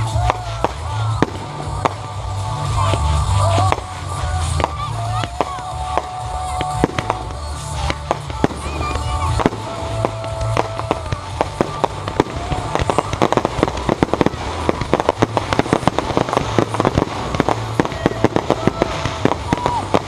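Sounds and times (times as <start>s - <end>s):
fireworks launching and bursting: 0.0s - 20.0s.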